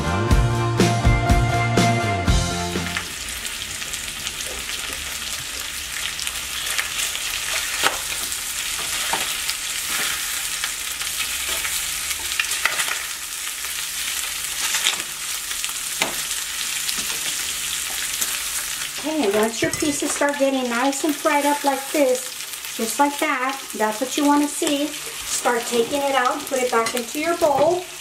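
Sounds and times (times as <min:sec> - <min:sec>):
meat sizzling in a pan: 0:02.6 - 0:28.0.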